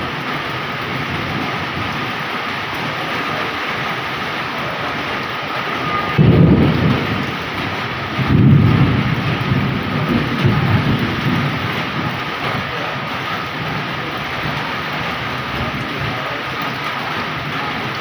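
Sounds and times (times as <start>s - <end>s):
heavy rain pouring: 0.0s - 18.0s
thunder rumbling: 0.0s - 18.0s.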